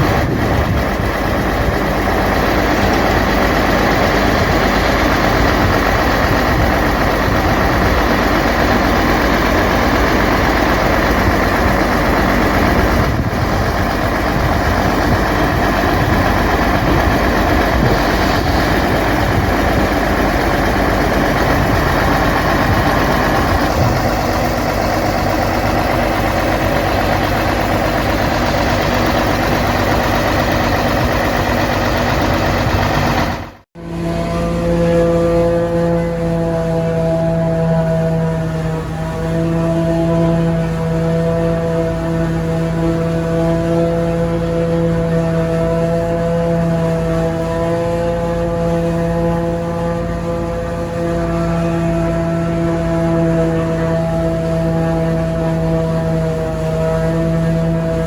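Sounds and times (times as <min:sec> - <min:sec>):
forage harvester running: 0:00.0 - 0:58.0.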